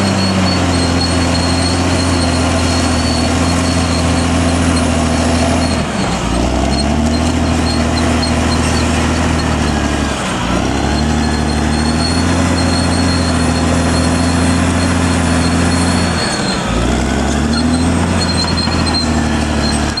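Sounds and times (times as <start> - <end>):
bulldozer diesel engine under load: 0.0 - 20.0.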